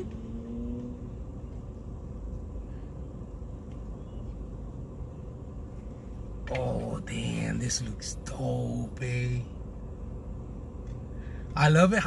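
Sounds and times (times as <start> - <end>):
low rumble in car cabin: 0.0 - 12.0.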